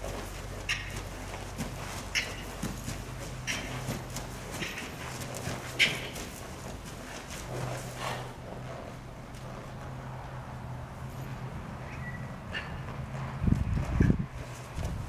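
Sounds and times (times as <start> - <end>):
hoofbeats on soft dirt: 0.0 - 15.0.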